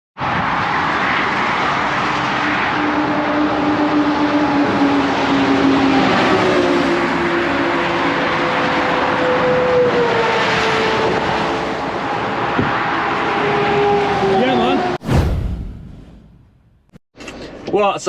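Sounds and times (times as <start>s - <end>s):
wind and tyre noise: 0.2s - 16.5s.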